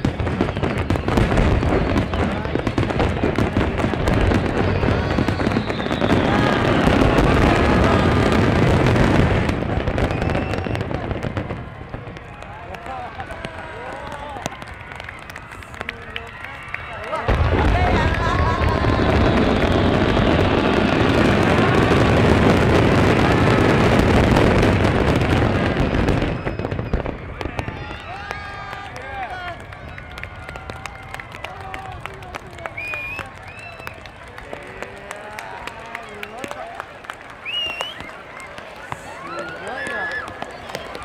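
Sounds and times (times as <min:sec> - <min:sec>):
fireworks crackling and rumbling: 0:00.0 - 0:41.0.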